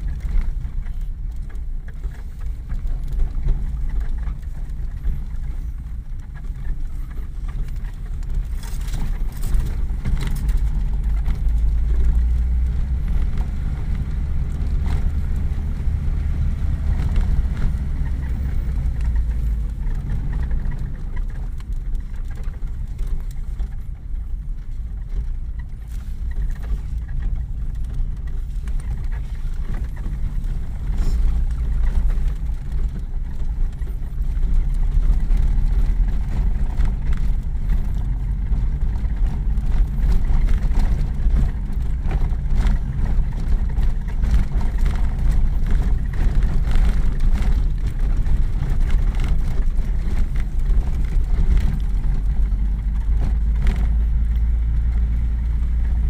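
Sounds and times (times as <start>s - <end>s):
old vehicle engine running: 0.0s - 56.0s.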